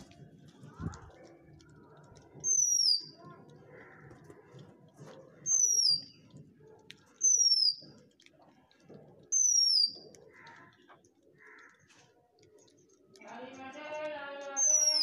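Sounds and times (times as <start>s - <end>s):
faint pecking: 0.0s - 14.6s.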